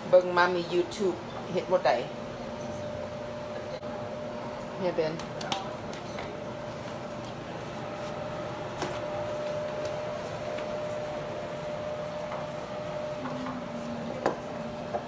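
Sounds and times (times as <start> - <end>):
machine hum with whining tone: 0.0 - 15.0.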